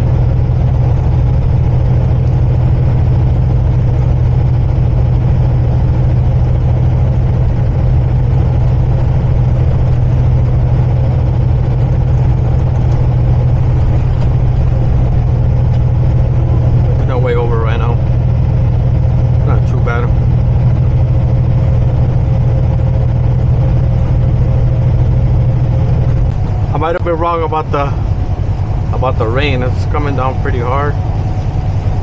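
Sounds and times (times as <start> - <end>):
road noise: 0.0 - 32.0
truck diesel engine droning: 0.0 - 32.0.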